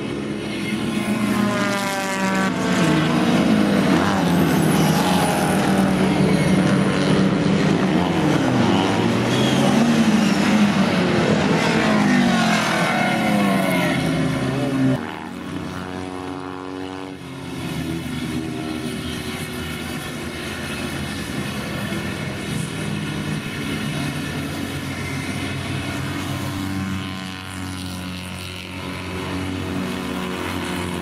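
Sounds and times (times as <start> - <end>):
racing car engines revving: 0.0 - 31.0
steady engine drone: 0.0 - 31.0.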